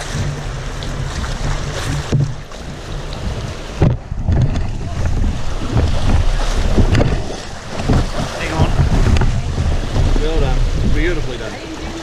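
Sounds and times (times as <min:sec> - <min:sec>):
paddle splashes: 0:00.0 - 0:12.0
rushing rapids: 0:00.0 - 0:12.0
wind buffeting microphone: 0:00.0 - 0:12.0.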